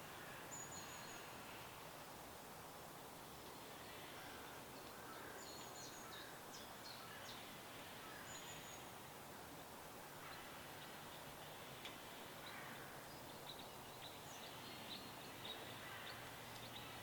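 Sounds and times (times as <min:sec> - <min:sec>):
soft outdoor hiss: 0:00.0 - 0:17.0.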